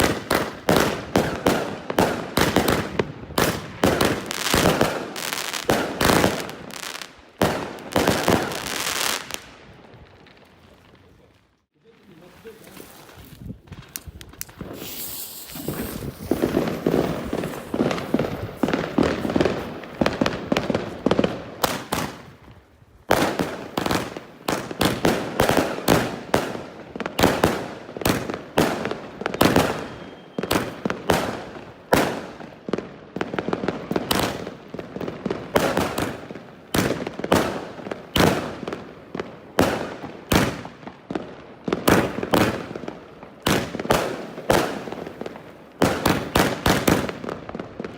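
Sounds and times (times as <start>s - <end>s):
fireworks shots and bursts: 0.0s - 11.1s, 13.6s - 47.9s
fireworks crackling: 0.0s - 47.9s.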